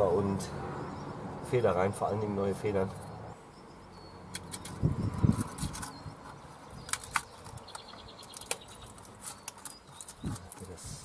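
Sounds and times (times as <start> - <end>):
bird chirping trill: 0.0 - 10.6.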